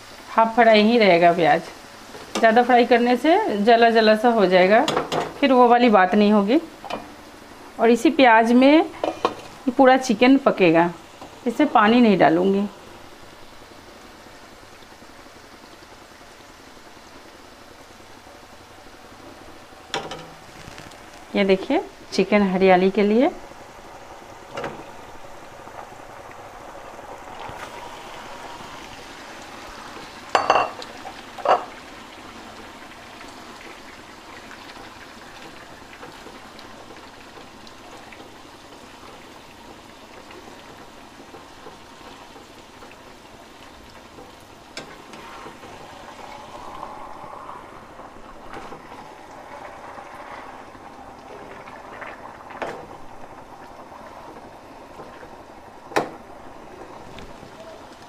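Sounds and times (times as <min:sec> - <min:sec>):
chicken sizzling in pot: 0:00.0 - 0:58.0.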